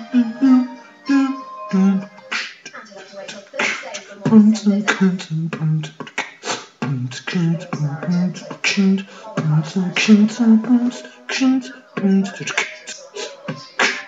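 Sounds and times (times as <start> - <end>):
man beatboxing: 1.1 - 14.0.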